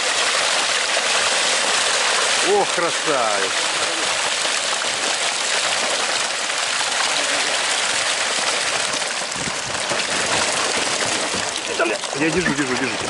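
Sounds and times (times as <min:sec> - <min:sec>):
fish sliding and splashing: 0:00.0 - 0:13.0
water rushing down chute: 0:00.0 - 0:13.0.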